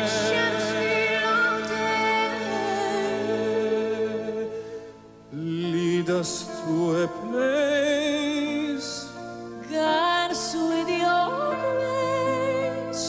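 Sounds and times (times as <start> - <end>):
slow ballad music: 0.0 - 13.0.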